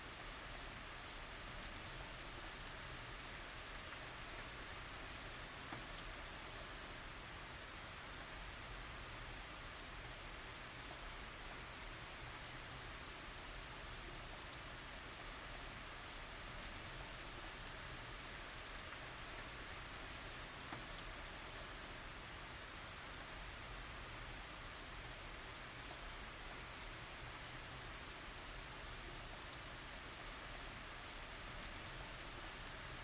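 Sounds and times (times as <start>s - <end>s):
light rain falling: 0.0s - 33.0s.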